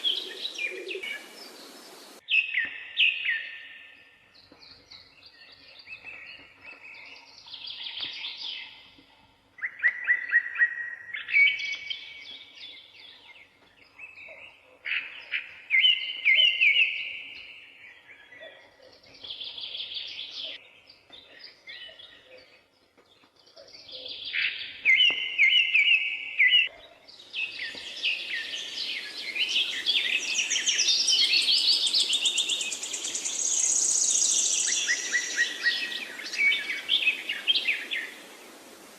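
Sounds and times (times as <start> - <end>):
birds singing: 0.0 - 9.0, 9.6 - 38.6.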